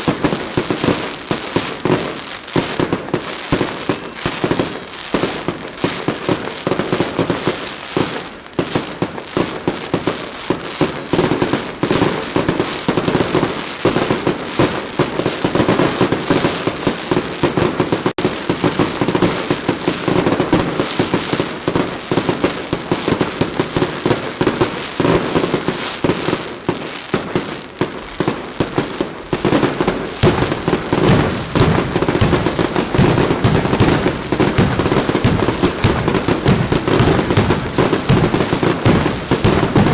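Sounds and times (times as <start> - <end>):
fireworks bangs: 0.0 - 10.2, 10.8 - 39.9
firecrackers crackling: 0.0 - 39.9.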